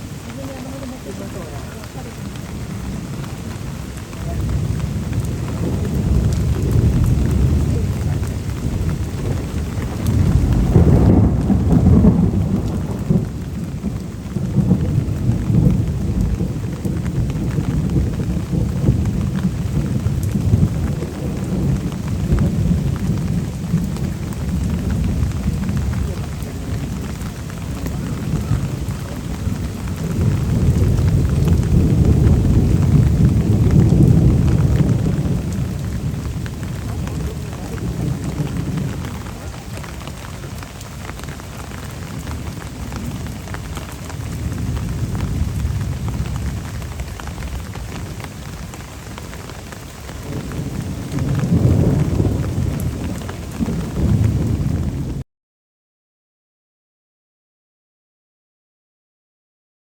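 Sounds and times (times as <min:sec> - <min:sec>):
thunder rumbling: 0:00.0 - 0:55.2.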